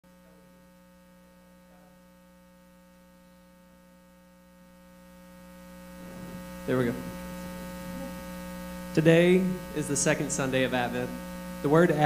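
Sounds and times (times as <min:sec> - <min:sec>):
faint electrical mains hum: 0:00.1 - 0:12.0.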